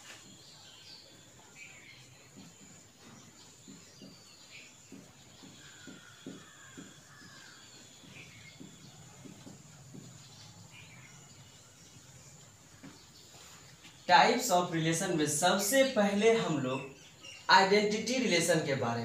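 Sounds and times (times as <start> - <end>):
faint bird chirps: 0.0 - 18.7.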